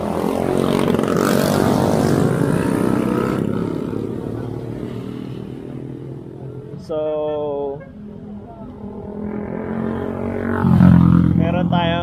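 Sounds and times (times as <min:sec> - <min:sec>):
motorcycle engine passing by: 0:00.0 - 0:06.6, 0:08.9 - 0:12.0.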